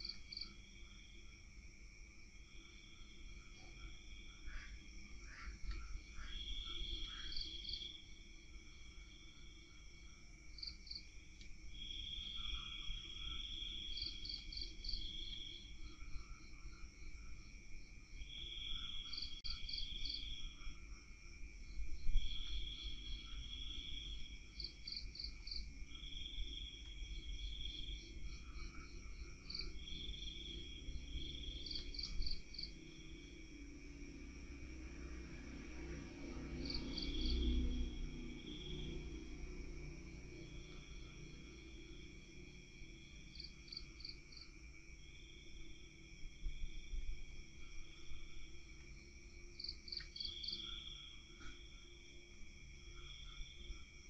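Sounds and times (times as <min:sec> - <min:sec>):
crickets chirping and trilling: 0:00.0 - 0:54.0
high insect drone: 0:00.0 - 0:54.0.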